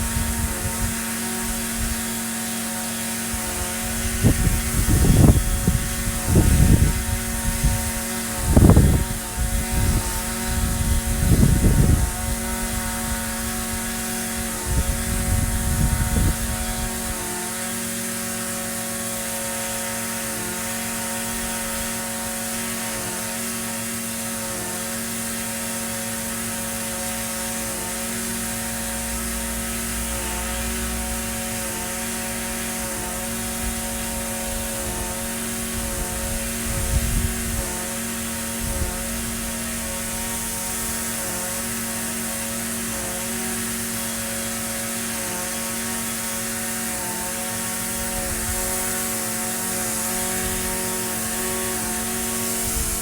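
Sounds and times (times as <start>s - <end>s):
string trimmer engine running: 0.0s - 53.0s.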